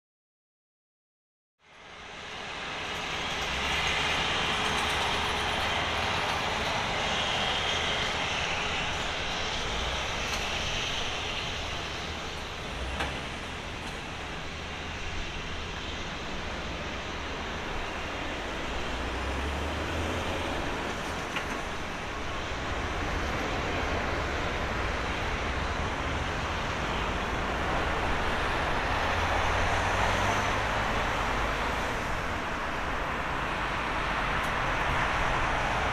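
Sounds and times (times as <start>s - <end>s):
jet engine roar: 1.7s - 35.9s.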